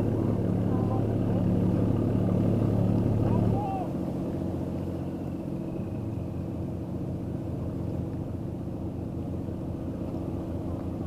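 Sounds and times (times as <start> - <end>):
engine idling at low revs: 0.0 - 11.0.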